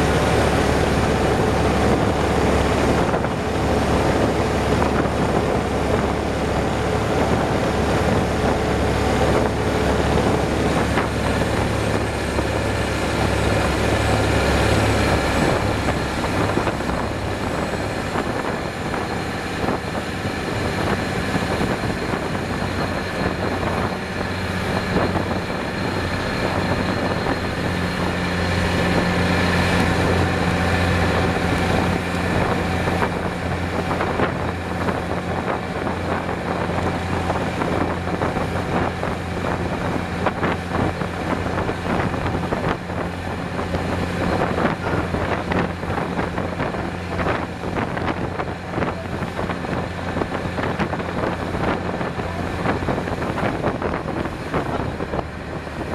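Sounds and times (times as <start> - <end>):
boat diesel engine droning: 0.0 - 55.9
water splashing along hull: 0.0 - 55.9
wind on microphone: 0.0 - 55.9.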